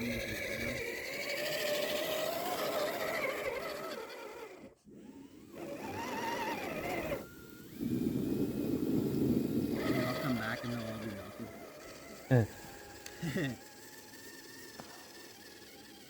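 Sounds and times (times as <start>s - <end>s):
electric motor and gear whine: 0.0s - 16.0s.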